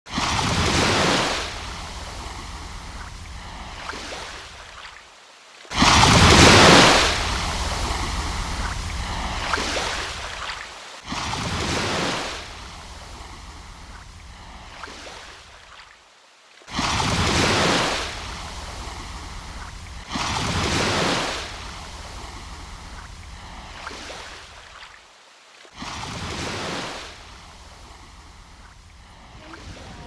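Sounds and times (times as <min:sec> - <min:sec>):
ocean waves washing: 0:00.1 - 0:30.0.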